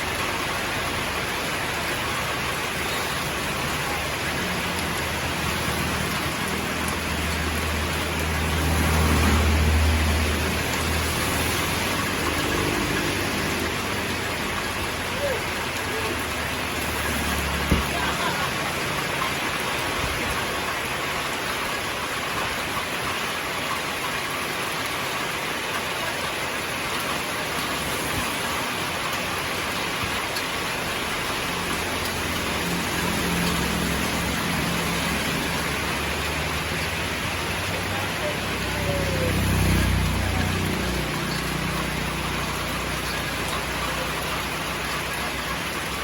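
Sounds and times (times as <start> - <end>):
heavy rain hissing: 0.0 - 46.0.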